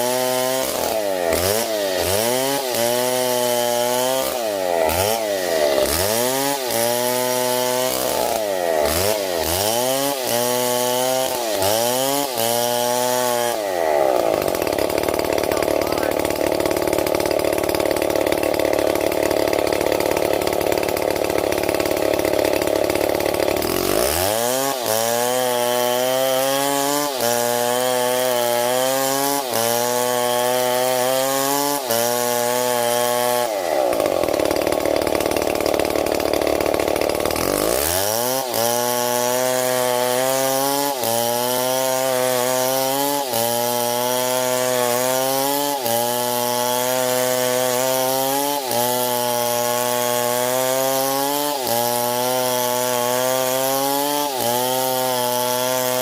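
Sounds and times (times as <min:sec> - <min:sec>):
two-stroke chainsaw running: 0:00.0 - 0:56.0.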